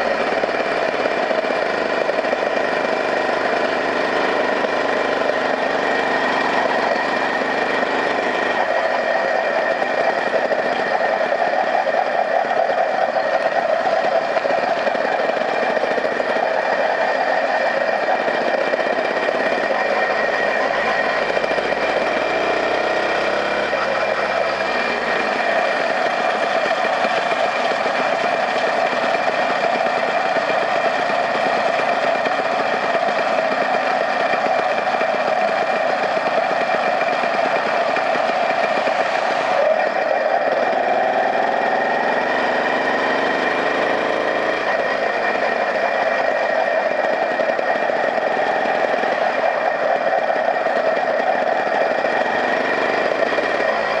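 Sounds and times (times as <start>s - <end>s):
small vehicle engine running: 0.0s - 54.0s.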